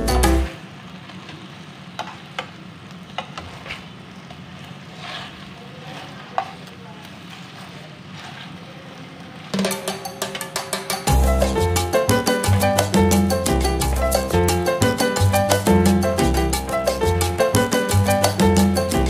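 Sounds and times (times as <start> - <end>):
chicken sizzling in a frying pan: 0.0 - 19.0.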